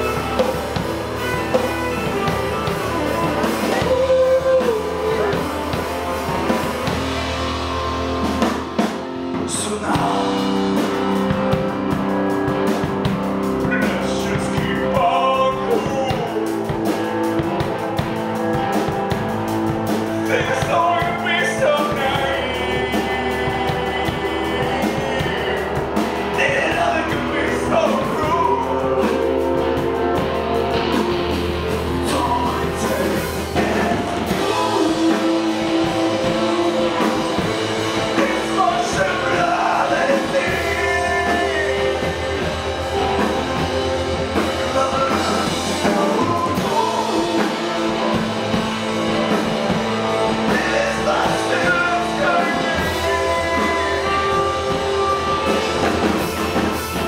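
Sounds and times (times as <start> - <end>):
live rock band playing: 0.0 - 57.0
low bass line: 0.0 - 57.0
person singing: 0.0 - 57.0.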